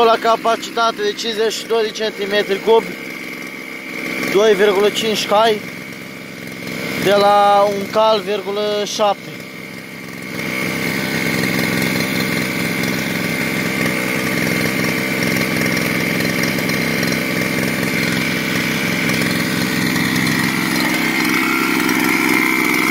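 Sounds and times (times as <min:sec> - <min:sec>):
brushcutter engine idling: 0:00.0 - 0:22.9.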